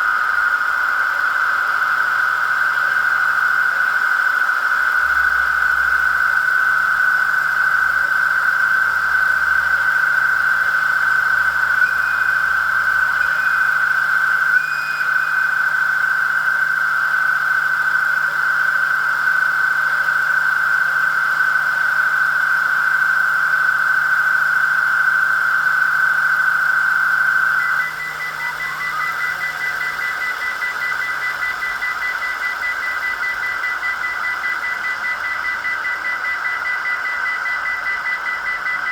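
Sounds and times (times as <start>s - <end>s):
diesel engine sound from small speaker: 0.0s - 38.9s
rising whine: 0.0s - 38.9s
thin steady high tone: 0.0s - 38.9s.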